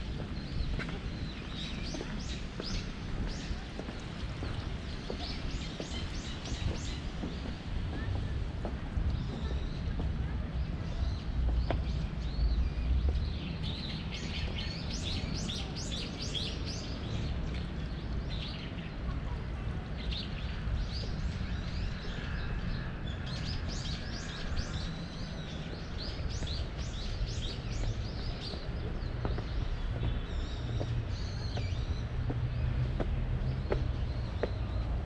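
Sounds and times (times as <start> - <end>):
small birds chirping: 0.1 - 35.0.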